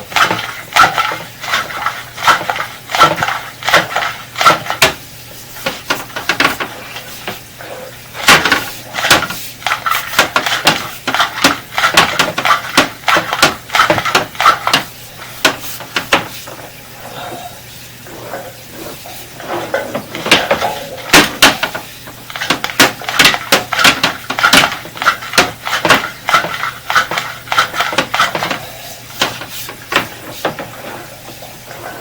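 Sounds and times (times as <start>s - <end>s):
cable clattering and knocking in drain: 0.0s - 5.0s, 5.6s - 7.5s, 8.1s - 16.8s, 18.2s - 32.0s.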